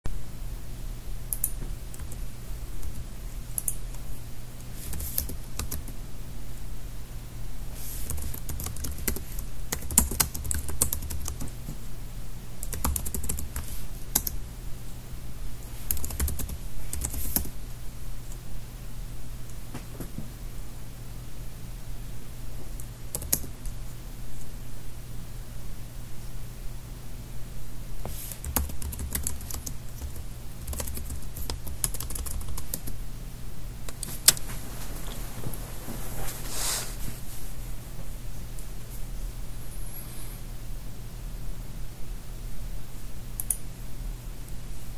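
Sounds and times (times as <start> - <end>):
steady low hum: 0.1 - 44.9.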